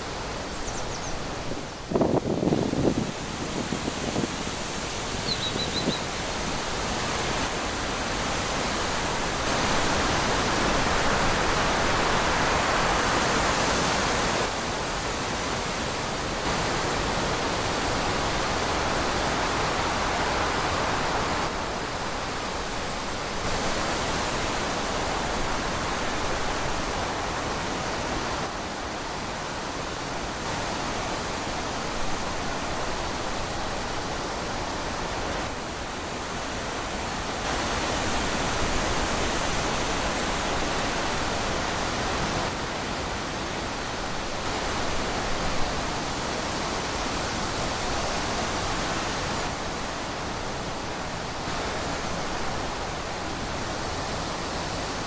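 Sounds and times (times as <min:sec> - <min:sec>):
wind rushing through trees: 0:00.0 - 0:55.0.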